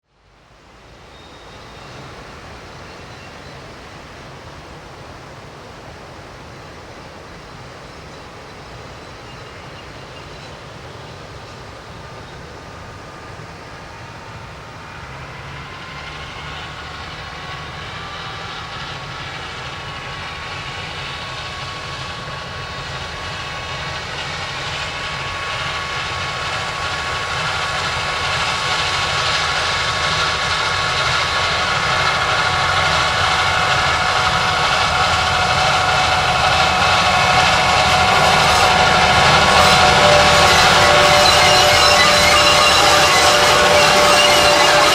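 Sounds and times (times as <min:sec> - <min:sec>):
railway engine droning and whining: 0:00.1 - 0:44.9.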